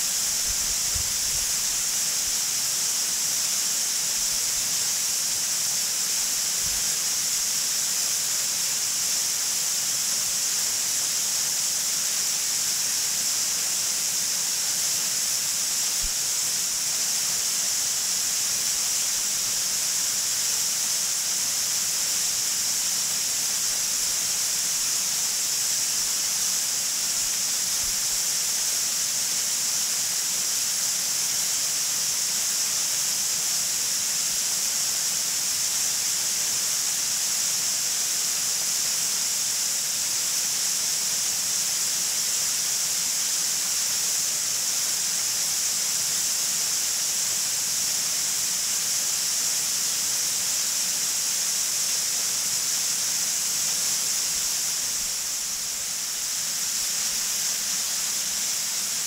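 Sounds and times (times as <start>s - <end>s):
waterfall rushing hiss: 0.0s - 59.0s.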